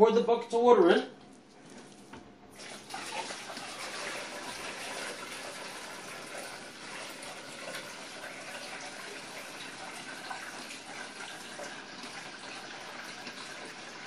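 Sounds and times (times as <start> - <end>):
water pouring and splashing: 2.5 - 14.0.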